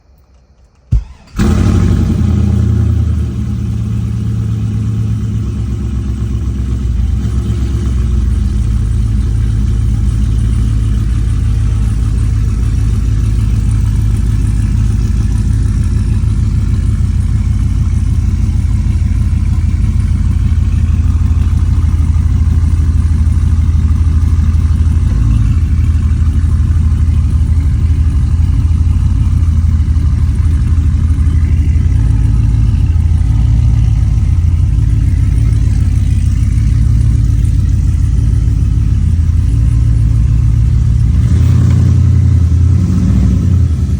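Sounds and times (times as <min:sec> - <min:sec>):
car engine starting and idling: 0:00.0 - 0:43.9.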